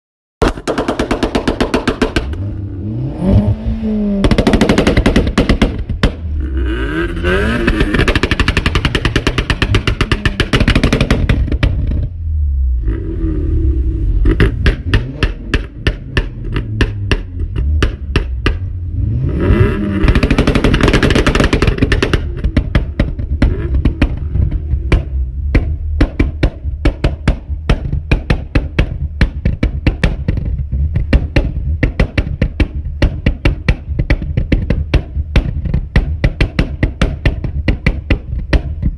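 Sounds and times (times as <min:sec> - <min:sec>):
exhaust popping and crackling: 0:00.4 - 0:38.9
car engine revving: 0:01.5 - 0:33.0.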